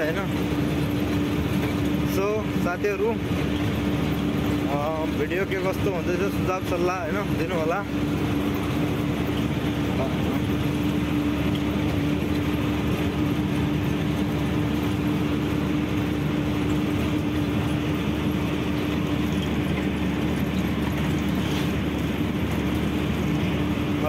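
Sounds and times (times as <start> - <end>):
road noise: 0.0 - 24.0
truck engine droning: 0.0 - 24.0.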